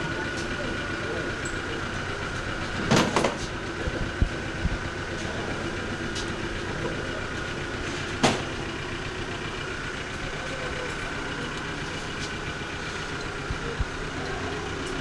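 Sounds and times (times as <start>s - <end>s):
engine-like hum: 0.0s - 15.0s.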